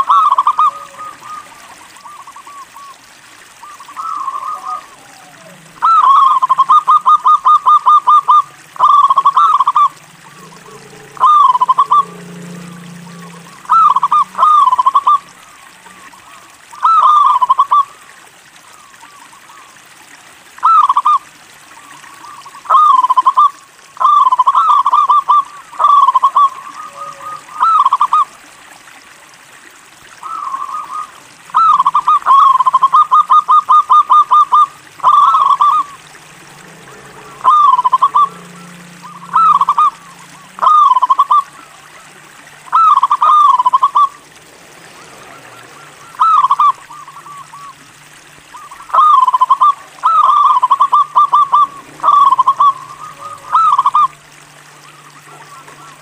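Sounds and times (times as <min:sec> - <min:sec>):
dove cooing: 0:00.0 - 0:03.0, 0:03.6 - 0:18.1, 0:21.8 - 0:28.5, 0:30.2 - 0:56.0.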